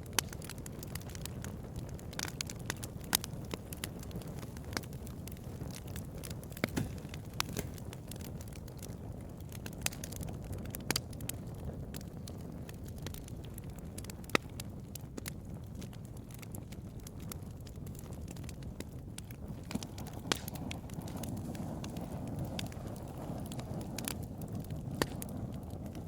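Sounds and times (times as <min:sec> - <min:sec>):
burning wood popping and snapping: 0:00.0 - 0:26.0
steady rush of flames: 0:00.0 - 0:26.0.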